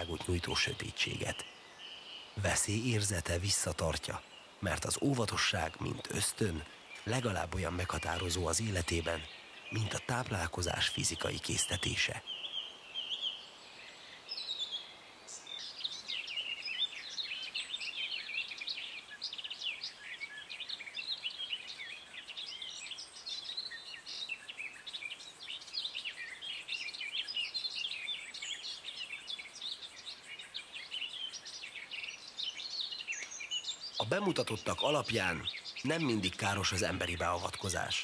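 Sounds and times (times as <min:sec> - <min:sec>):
small birds chirping and trilling: 0:00.0 - 0:38.0.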